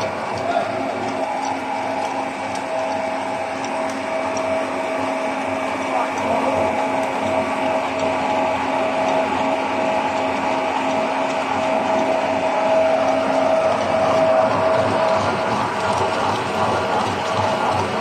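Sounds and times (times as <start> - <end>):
machine drone: 0.0 - 18.0
steady machine whine: 0.0 - 18.0.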